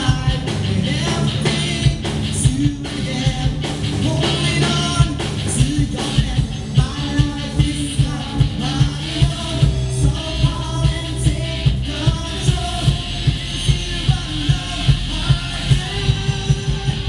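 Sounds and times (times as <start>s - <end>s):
drum kit beat: 0.0s - 17.0s
electric guitar: 0.0s - 17.0s
male singer: 0.0s - 17.0s.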